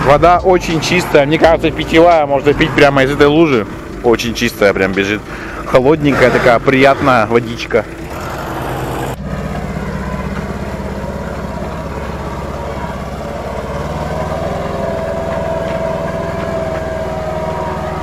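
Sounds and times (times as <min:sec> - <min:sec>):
steady whine: 0:00.0 - 0:18.0
vehicle engine running: 0:00.0 - 0:18.0.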